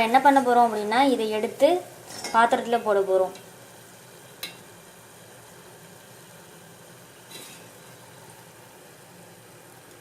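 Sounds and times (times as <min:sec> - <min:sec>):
hot oil sizzling softly: 0:00.0 - 0:10.0.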